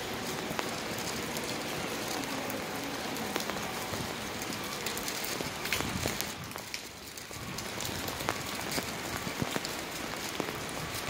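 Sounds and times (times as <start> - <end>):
drips and splashes: 0.0 - 11.0
rain on standing water: 0.0 - 11.0.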